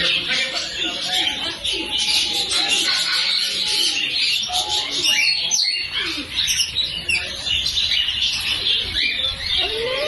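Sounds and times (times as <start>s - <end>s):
caged birds chirping: 0.0s - 10.0s.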